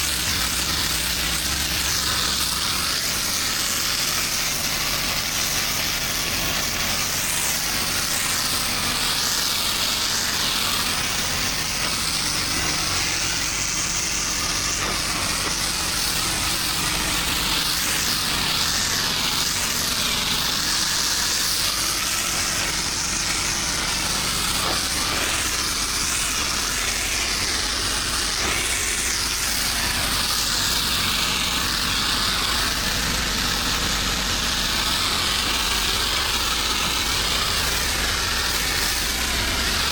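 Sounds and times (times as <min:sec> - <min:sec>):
hiss of spraying water: 0:00.0 - 0:39.9
pressure washer engine running: 0:00.0 - 0:39.9.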